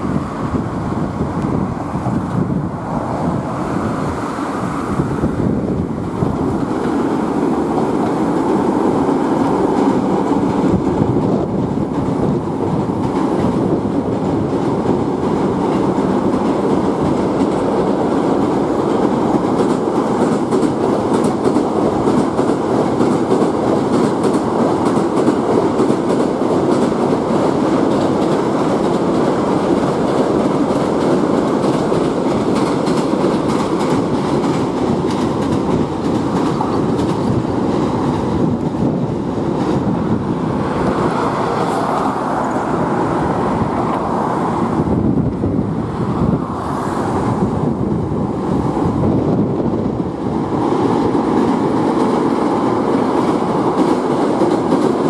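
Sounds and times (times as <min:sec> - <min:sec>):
rail joints clickety-clack: 0:00.0 - 0:55.0
train wheels rumbling on rails: 0:00.0 - 0:55.0.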